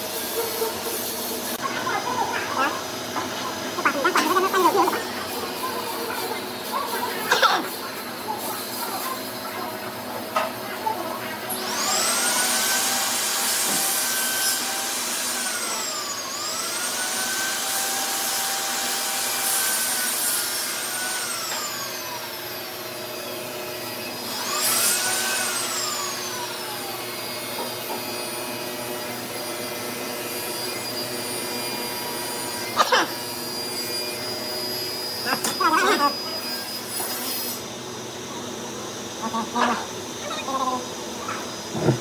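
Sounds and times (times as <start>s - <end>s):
high-pitched electric motor whine: 3.7s - 42.0s.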